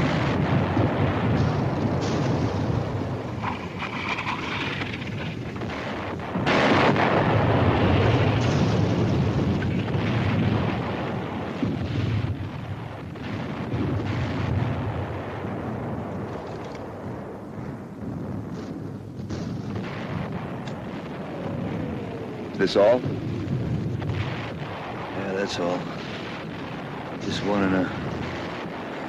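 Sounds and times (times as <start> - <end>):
loud shell explosion: 0.0 - 29.0
rumble of shelling: 0.0 - 29.0.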